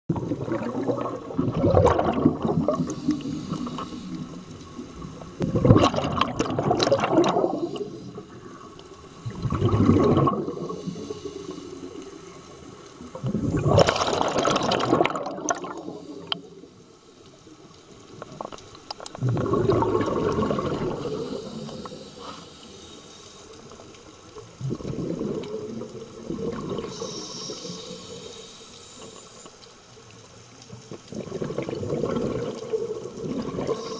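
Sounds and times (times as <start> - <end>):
exhaled bubbles gurgling underwater: 0.1 - 22.8, 23.6 - 29.3, 30.5 - 33.9.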